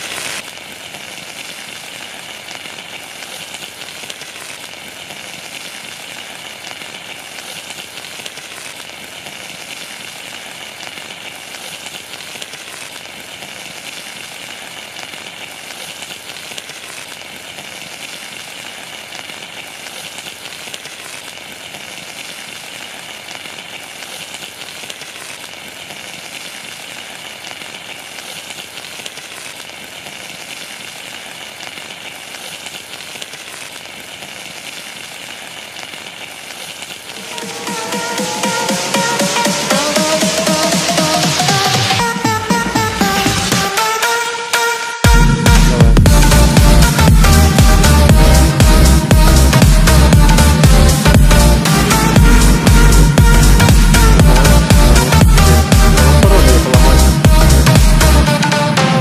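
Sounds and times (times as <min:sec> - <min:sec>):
fish sizzling on hot rock: 0:00.0 - 0:44.2, 0:45.1 - 0:56.0.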